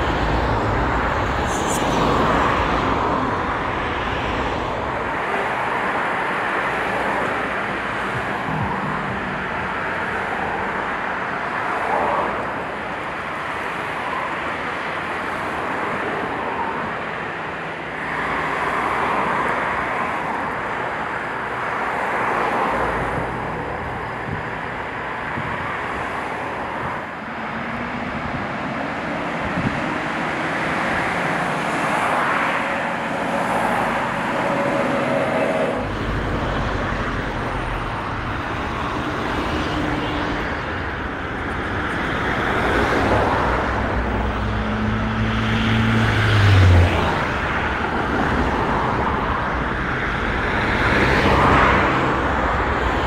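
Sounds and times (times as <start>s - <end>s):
car engines and tyres: 0.0s - 53.0s
cars passing: 0.0s - 53.0s
low traffic rumble: 0.0s - 53.0s.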